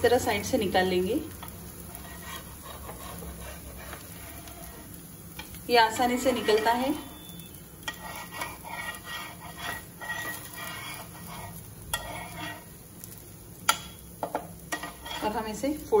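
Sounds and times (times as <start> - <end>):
metal spatula scraping a pan: 1.8 - 12.8, 13.7 - 15.7.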